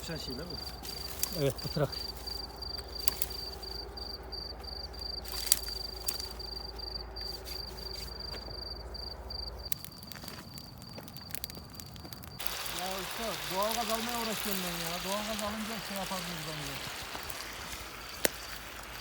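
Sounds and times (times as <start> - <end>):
insect trilling: 0.0 - 19.0.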